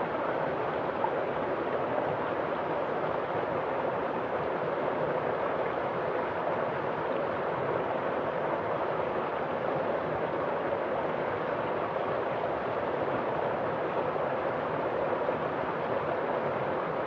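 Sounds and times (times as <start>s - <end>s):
stream water over stones: 0.0s - 17.0s.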